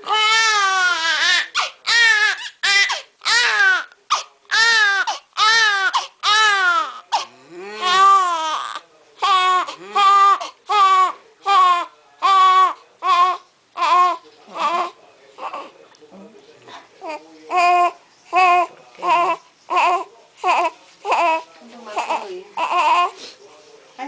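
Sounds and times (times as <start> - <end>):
newborn baby crying: 0.0 - 15.7, 17.0 - 23.2.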